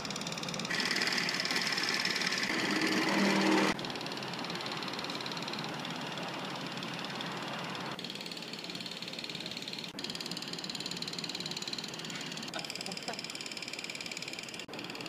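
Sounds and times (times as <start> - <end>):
film projector clatter: 0.0 - 15.0.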